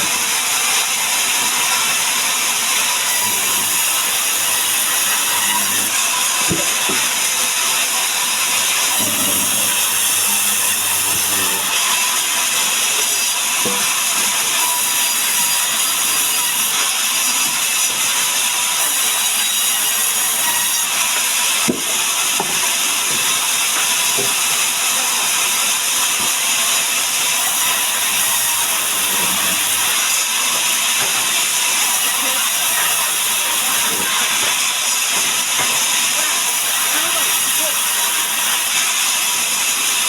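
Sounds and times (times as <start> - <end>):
sawmill saw hissing: 0.0 - 40.0.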